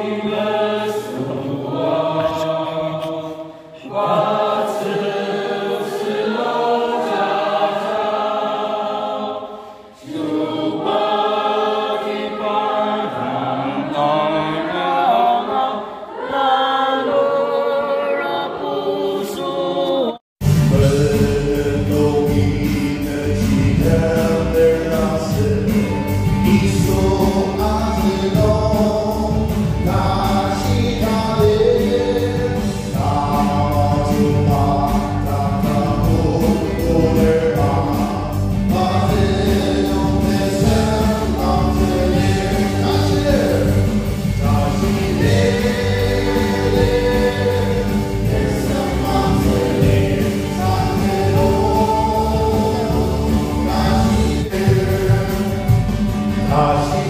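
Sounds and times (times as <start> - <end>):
group singing gospel: 0.0 - 57.0.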